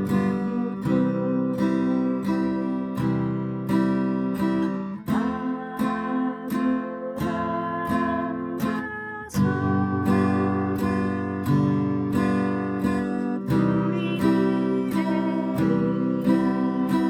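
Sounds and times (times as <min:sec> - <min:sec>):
acoustic guitar strumming waltz: 0:00.0 - 0:17.0.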